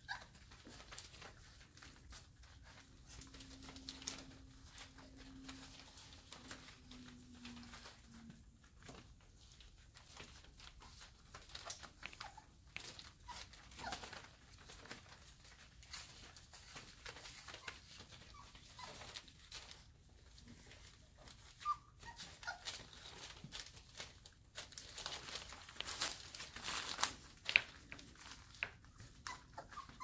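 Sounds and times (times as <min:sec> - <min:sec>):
puppy paws scratching and rustling: 0:00.0 - 0:30.0.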